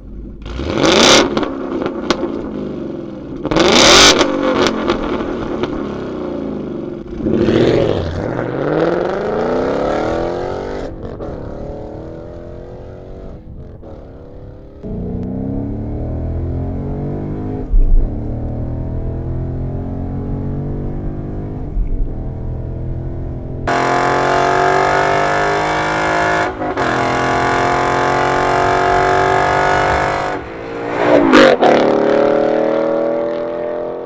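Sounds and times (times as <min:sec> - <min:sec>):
car engine accelerating: 0:00.3 - 0:34.0.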